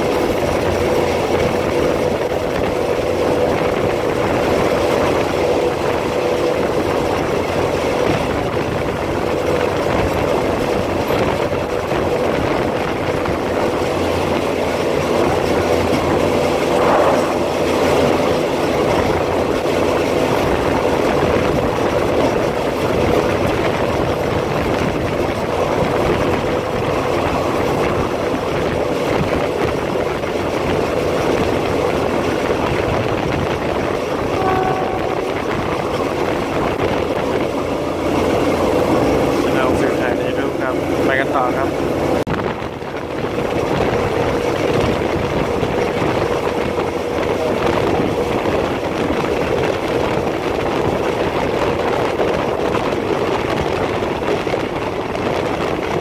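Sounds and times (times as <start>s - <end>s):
railcar engine drone: 0.0s - 56.0s
wheels rumbling on rail: 0.0s - 56.0s.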